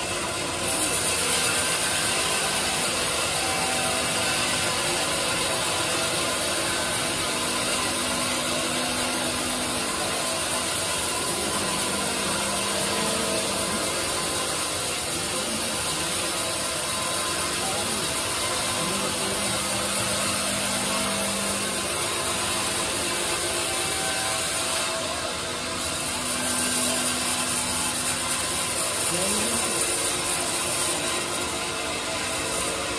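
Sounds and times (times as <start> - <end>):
band saw running: 0.0 - 32.9.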